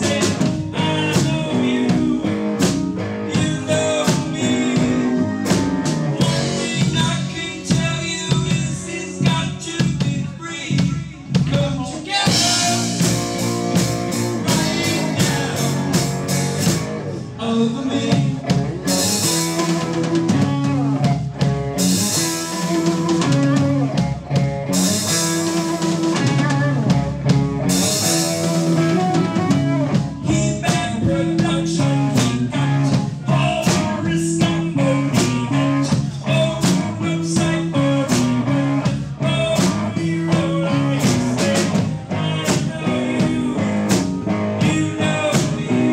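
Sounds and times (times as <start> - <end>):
blues-rock band music: 0.0 - 45.9.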